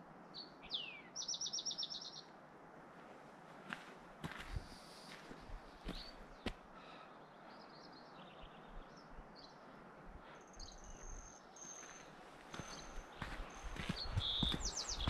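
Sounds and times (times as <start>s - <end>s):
birds chirping: 0.2s - 2.4s, 3.8s - 15.0s.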